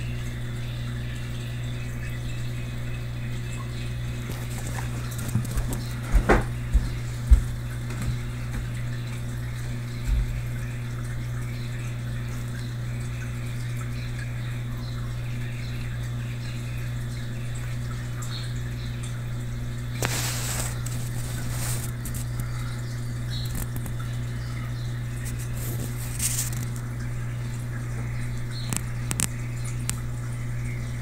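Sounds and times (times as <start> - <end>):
water trickling and dripping: 0.0 - 31.0.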